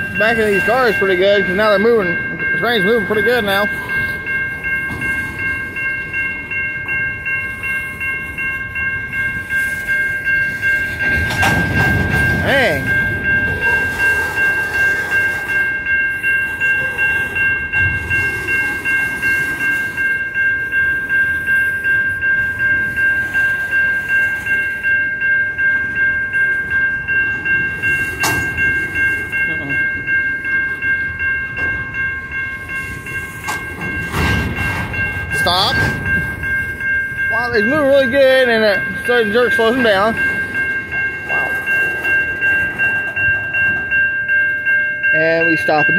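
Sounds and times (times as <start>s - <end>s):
crossing bell ringing: 0.0s - 45.9s
train cars rolling on track: 0.0s - 45.9s.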